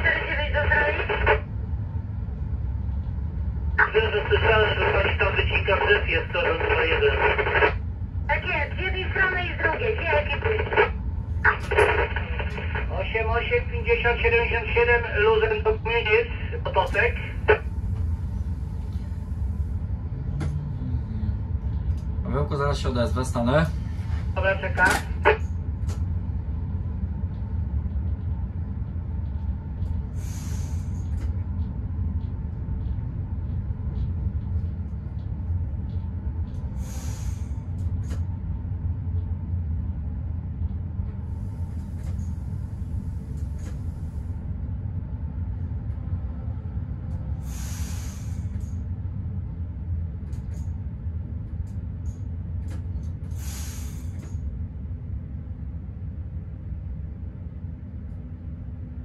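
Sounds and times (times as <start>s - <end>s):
low rumble inside locomotive cab: 0.0s - 59.0s.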